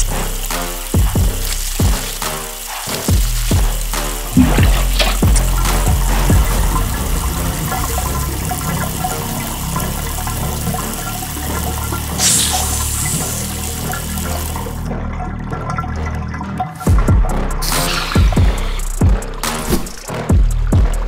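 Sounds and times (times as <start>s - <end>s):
water rushing down a drain: 0.0s - 20.2s.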